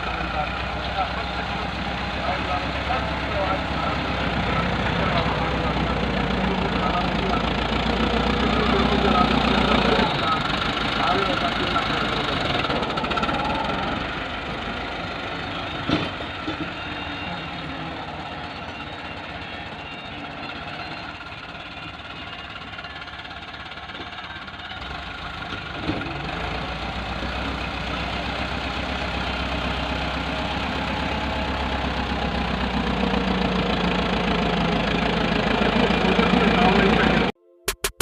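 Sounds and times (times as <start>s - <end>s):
tractor diesel engine clattering: 0.0s - 37.3s.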